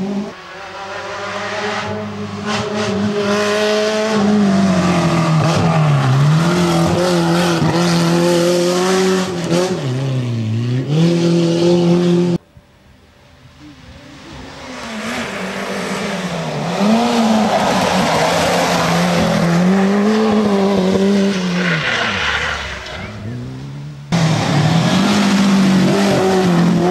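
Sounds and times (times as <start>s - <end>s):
rally car engine revving: 0.0s - 12.4s, 14.1s - 26.9s.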